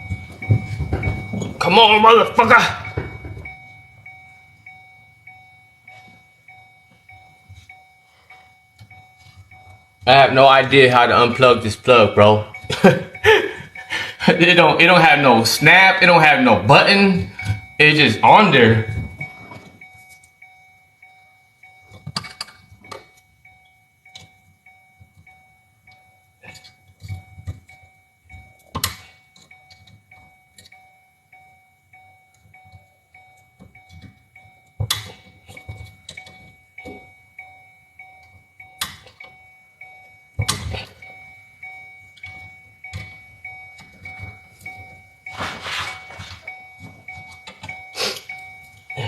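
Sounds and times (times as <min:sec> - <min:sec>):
car warning chime: 0:00.0 - 0:49.0
light regular ticking: 0:00.0 - 0:49.0.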